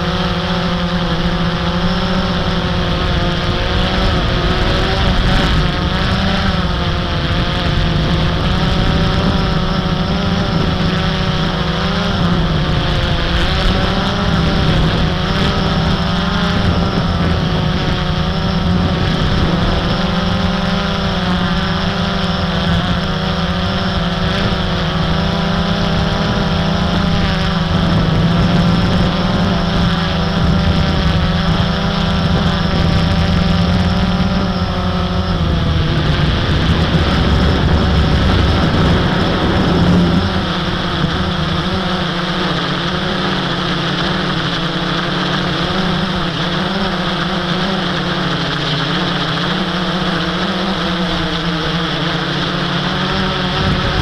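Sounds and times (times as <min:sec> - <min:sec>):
quadcopter propellers whirring: 0:00.0 - 0:54.0.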